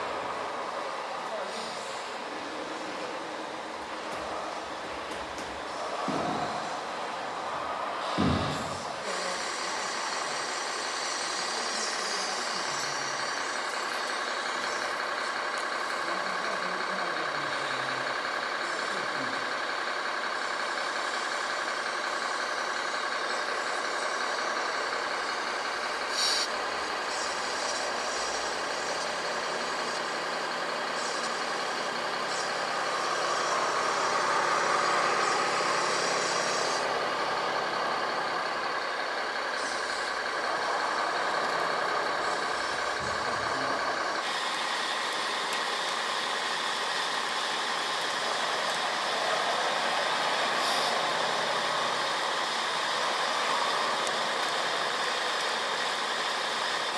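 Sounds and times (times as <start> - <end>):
model excavator motor whining: 0.0 - 56.9.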